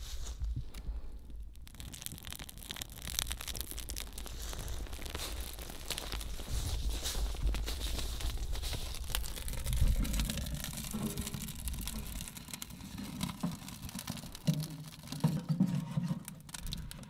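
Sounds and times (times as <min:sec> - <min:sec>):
bark crackling in flame: 0:00.0 - 0:17.0.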